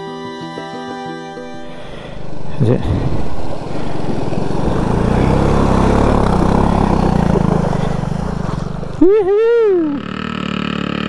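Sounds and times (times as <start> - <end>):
motorcycle engine running: 1.5 - 11.0.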